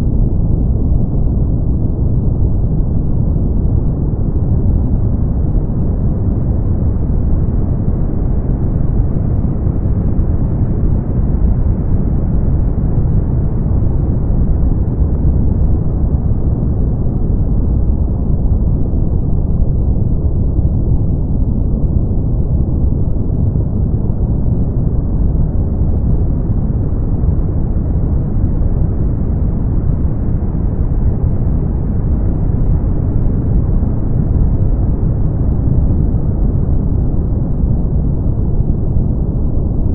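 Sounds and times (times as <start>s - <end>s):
deep rushing brown noise: 0.0s - 39.9s.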